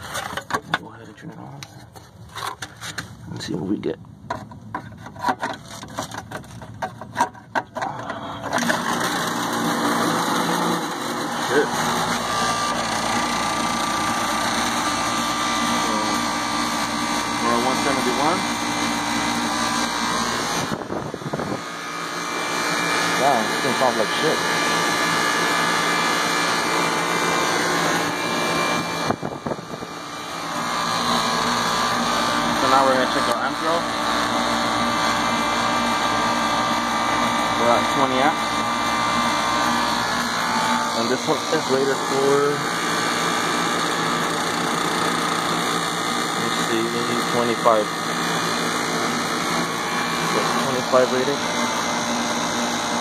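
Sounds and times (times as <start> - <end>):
air conditioner unit humming: 0.0 - 53.0
compressor and fan running: 0.0 - 53.0.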